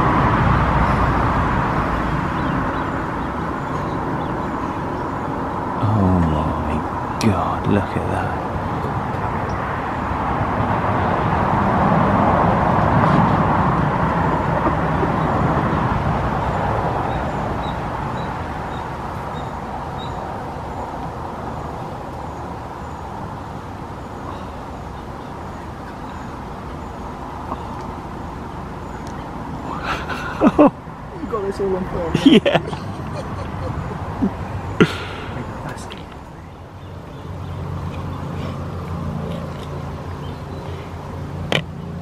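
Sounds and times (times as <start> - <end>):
rushing outdoor background noise: 0.0 - 42.0.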